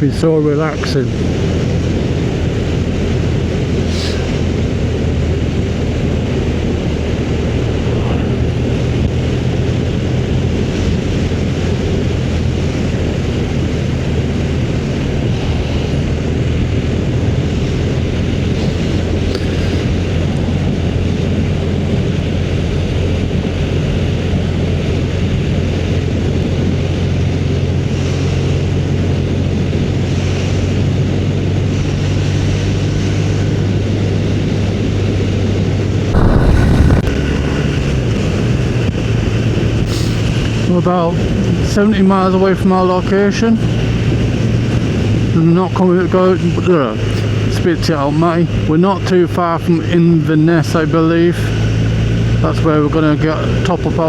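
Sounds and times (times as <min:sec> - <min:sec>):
wind and road noise: 0:00.0 - 0:48.8.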